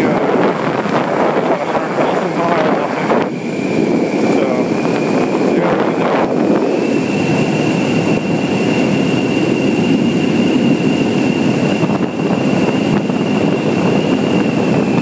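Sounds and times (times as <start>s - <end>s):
steady high whine: 0.0s - 15.0s
wind noise on microphone: 0.0s - 15.0s.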